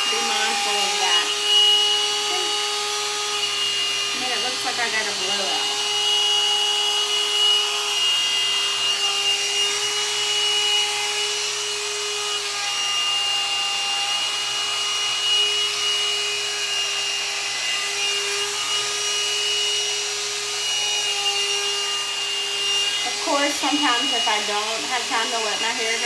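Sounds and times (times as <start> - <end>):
hair dryer brush motor whine: 0.0 - 26.0.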